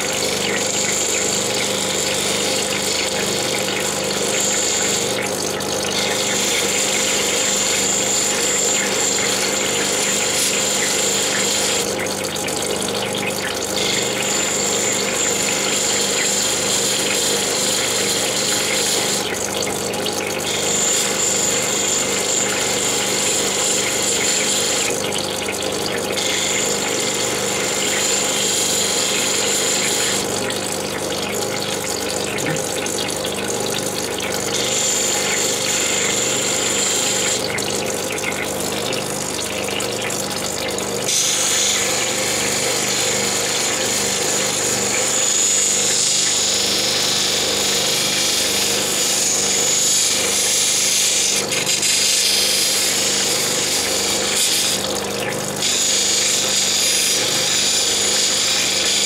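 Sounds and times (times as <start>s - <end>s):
stone grinding on wheel: 0.0s - 12.0s, 13.8s - 19.4s, 20.4s - 25.2s, 26.2s - 30.7s, 34.4s - 37.6s, 41.0s - 59.0s
steady motor hum: 0.0s - 59.0s.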